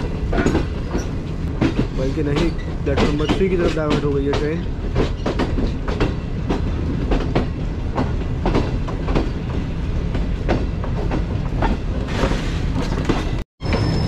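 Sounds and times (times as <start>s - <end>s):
train wheels clacking over rail joints: 0.0s - 13.4s
steady low train rumble: 0.0s - 14.0s.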